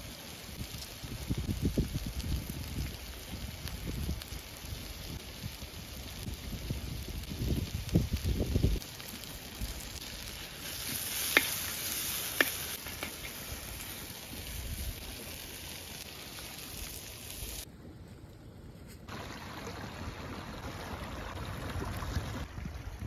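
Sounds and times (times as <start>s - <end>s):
steady outdoor rushing hiss: 0.0s - 21.6s.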